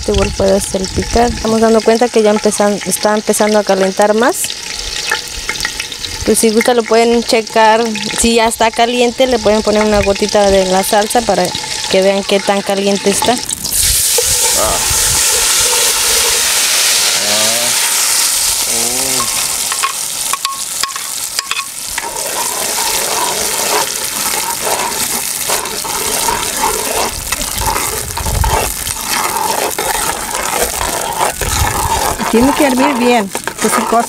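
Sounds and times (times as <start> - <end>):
sauce sizzling in hot oil: 0.0 - 34.0.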